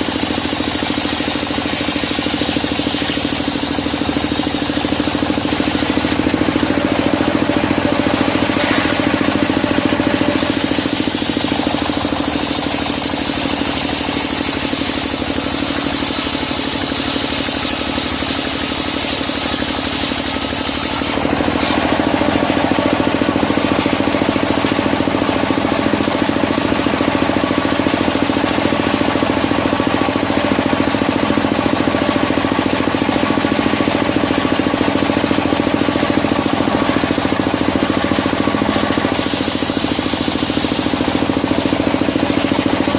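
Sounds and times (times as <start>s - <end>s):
circular sawmill sawing timber: 0.0s - 42.9s.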